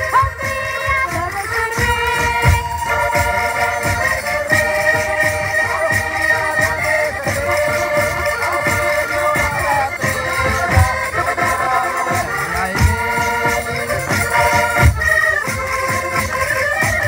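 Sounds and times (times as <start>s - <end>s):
folk dance music: 0.0s - 17.0s.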